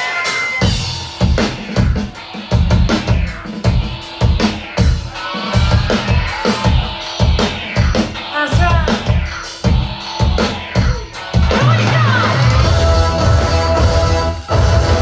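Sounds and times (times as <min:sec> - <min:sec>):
heavy drum beat: 0:00.0 - 0:15.0
live band music: 0:00.0 - 0:15.0.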